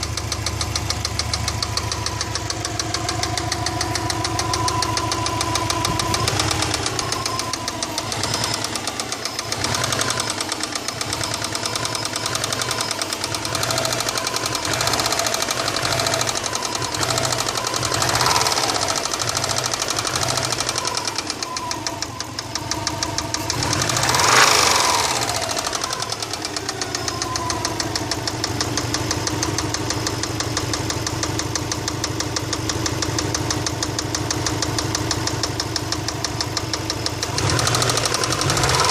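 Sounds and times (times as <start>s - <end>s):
car engine revving and idling: 0.0s - 38.9s.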